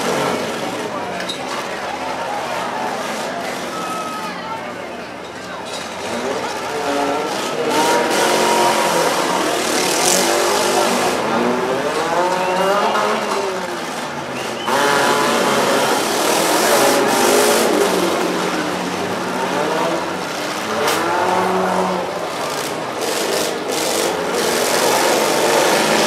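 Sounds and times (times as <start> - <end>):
demolition derby car engines revving: 0.0 - 26.0.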